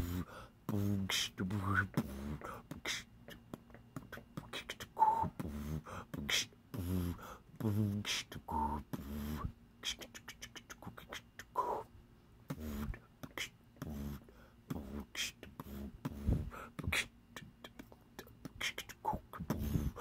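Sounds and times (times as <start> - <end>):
man beatboxing: 0.0 - 11.9, 12.5 - 20.0.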